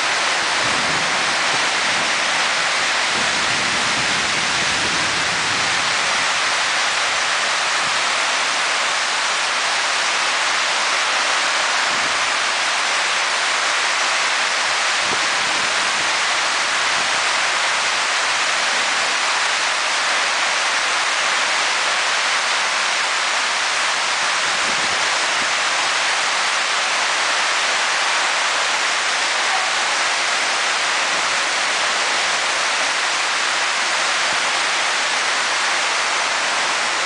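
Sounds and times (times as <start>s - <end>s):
heavy rain on pavement: 0.0s - 37.0s.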